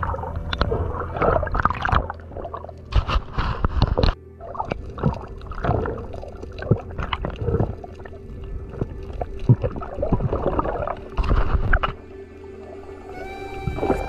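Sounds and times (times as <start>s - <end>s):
muffled underwater gurgling: 0.0s - 14.0s.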